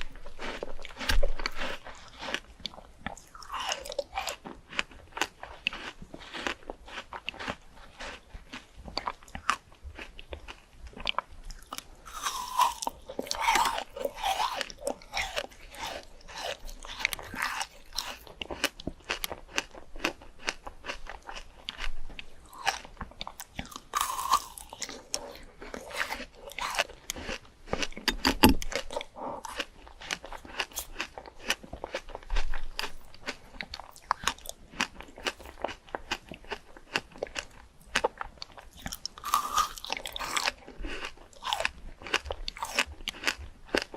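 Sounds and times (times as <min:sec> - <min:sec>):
person chewing crunchy fruit: 0:00.0 - 0:43.9.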